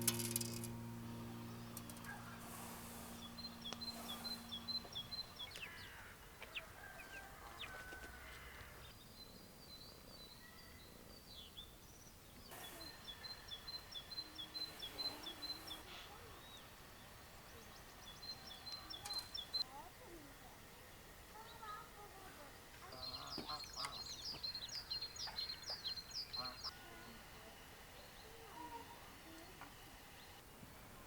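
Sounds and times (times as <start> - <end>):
small birds chirping: 0.0 - 20.1, 20.8 - 30.4.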